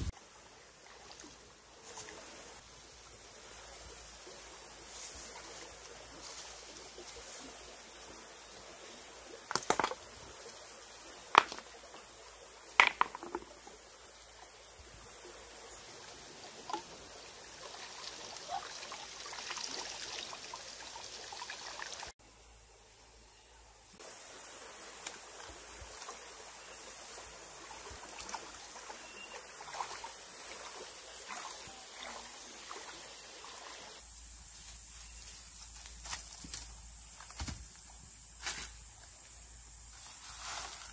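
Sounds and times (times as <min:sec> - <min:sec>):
stream trickling: 0:00.0 - 0:23.0, 0:23.9 - 0:34.7.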